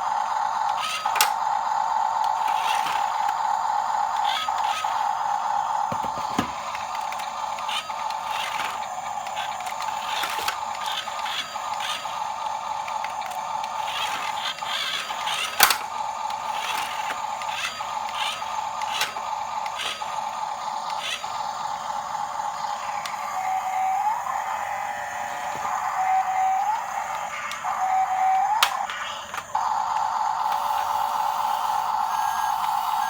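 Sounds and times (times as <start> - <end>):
small electric motor whining: 0.0 - 33.0.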